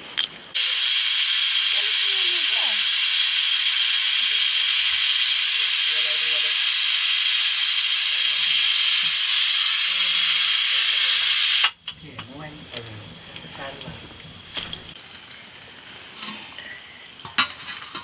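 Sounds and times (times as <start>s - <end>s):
steam hissing from a pot: 0.5s - 15.0s.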